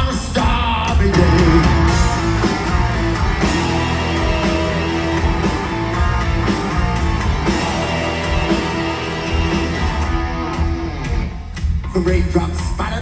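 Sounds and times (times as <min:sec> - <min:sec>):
live heavy metal band playing: 0:00.4 - 0:11.7
electric guitars: 0:00.8 - 0:11.8.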